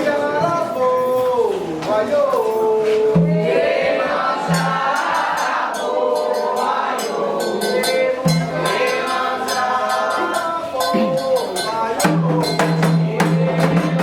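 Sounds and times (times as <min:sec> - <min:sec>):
group singing a chant: 0:00.0 - 0:14.0
percussion steady beat: 0:00.0 - 0:14.0.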